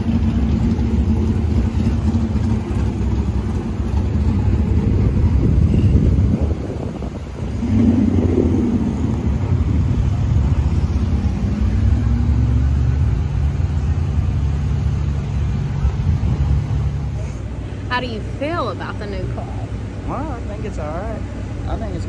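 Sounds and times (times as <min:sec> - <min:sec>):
race car engines rumbling: 0:00.0 - 0:22.0.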